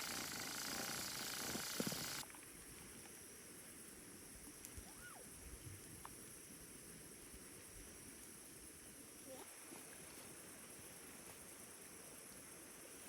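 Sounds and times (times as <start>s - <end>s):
outdoor ambience: 0.0s - 13.0s.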